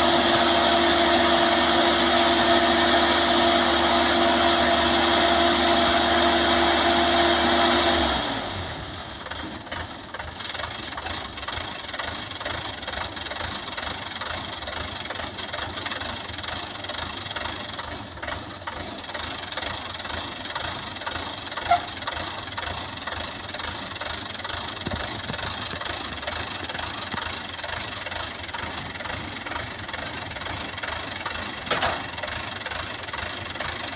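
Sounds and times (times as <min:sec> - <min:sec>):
heavy machine engine idling: 0:00.0 - 0:33.9.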